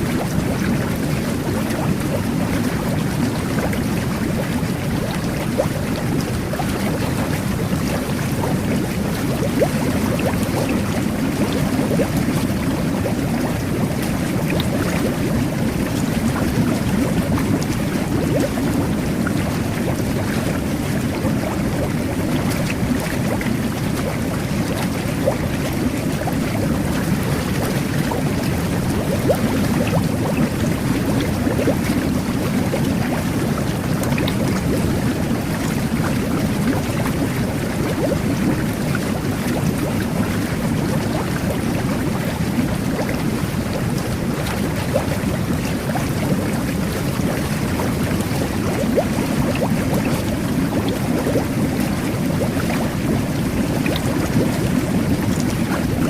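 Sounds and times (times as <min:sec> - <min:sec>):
bath water jets churning: 0:00.0 - 0:56.0.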